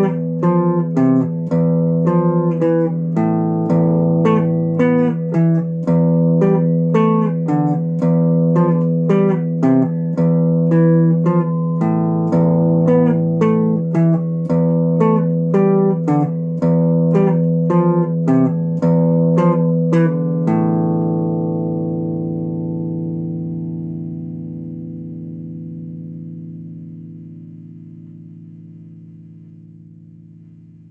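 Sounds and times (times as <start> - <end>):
fingerstyle acoustic guitar: 0.0 - 30.9.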